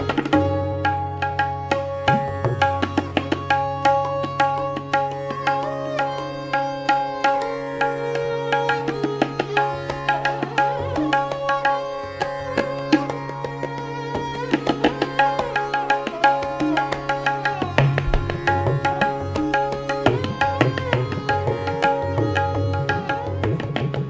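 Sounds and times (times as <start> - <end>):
plucked string melody: 0.0 - 24.0
tabla strokes: 0.0 - 24.0.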